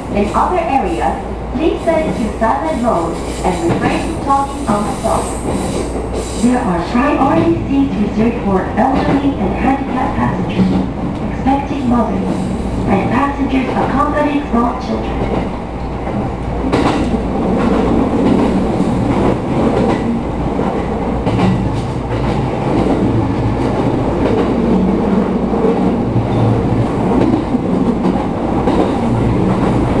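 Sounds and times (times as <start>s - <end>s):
train wheels and motors rumbling: 0.0s - 30.0s.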